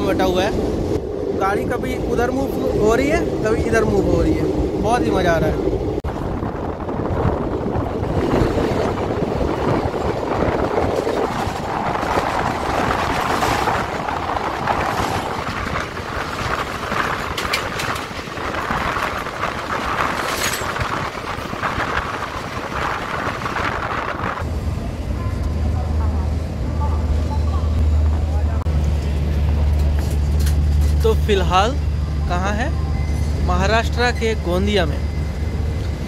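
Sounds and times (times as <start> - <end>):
passenger train running noise: 0.0 - 36.0.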